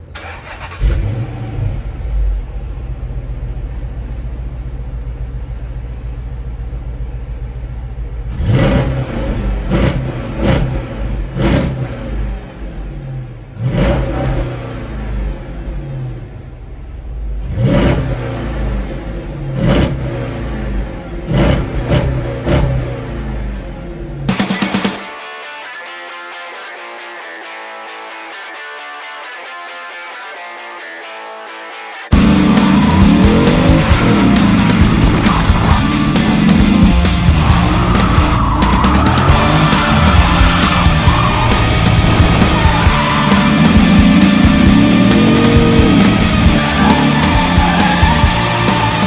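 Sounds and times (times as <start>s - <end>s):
car engine idling and revving: 0.0s - 25.0s, 32.1s - 49.0s.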